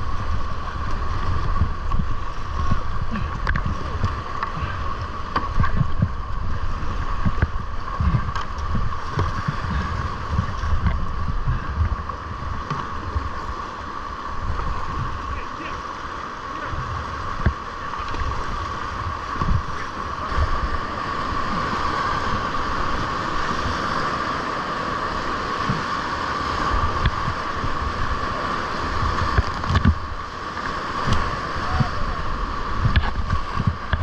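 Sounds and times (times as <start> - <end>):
wind buffeting microphone: 0.0 - 15.7, 16.6 - 24.4, 25.0 - 34.0
whitewater rapids rushing: 0.0 - 34.0.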